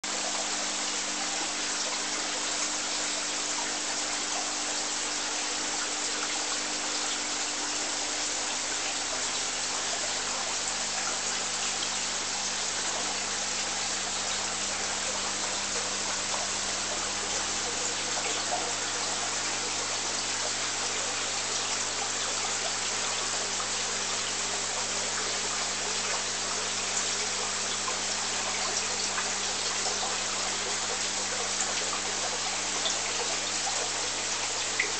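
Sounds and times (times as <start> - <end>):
aquarium water trickling: 0.0 - 34.9.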